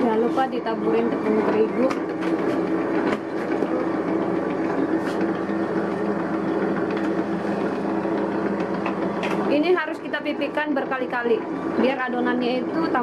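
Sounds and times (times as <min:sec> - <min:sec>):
dough roller machine running: 0:00.0 - 0:13.0.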